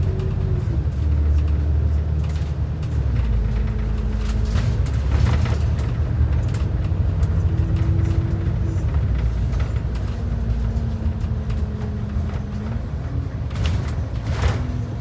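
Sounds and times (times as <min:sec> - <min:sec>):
bus engine droning with whine: 0:00.0 - 0:15.0.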